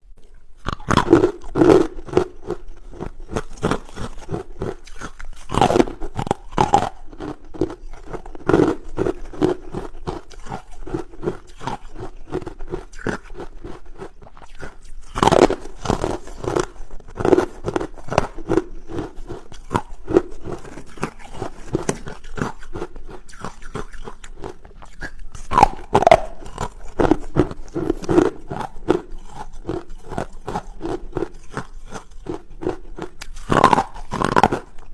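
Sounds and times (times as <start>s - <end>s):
ice crunching while chewed: 0.2s - 34.9s.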